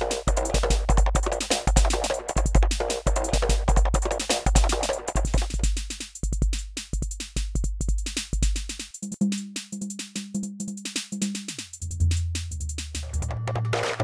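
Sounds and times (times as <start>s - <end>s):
hi-hat ticks: 0.0s - 13.2s
conga drum tone: 0.0s - 14.0s
drum machine kick: 0.0s - 14.0s.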